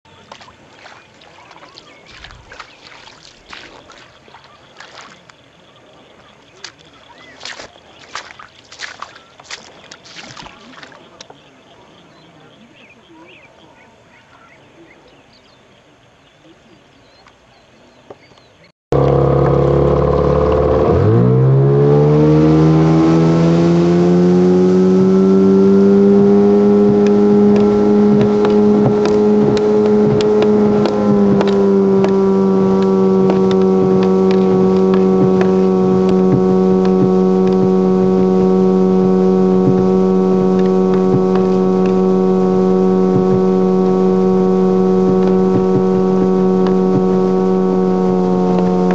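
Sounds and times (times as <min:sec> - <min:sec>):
motorboat engine running: 0:00.1 - 0:11.5, 0:18.9 - 0:48.9.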